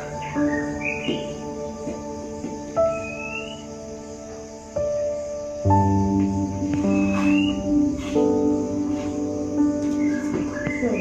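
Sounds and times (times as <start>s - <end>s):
calm ambient music: 0.0s - 11.0s.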